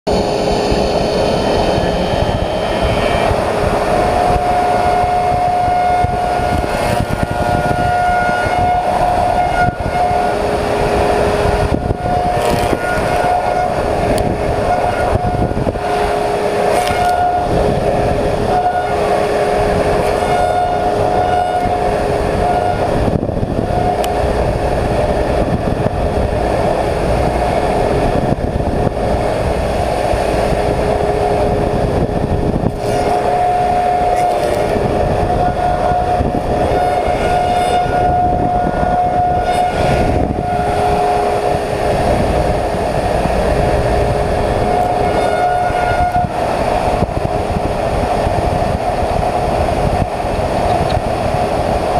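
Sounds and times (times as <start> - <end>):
surfacing machine cutter whining: 0.1 - 48.5.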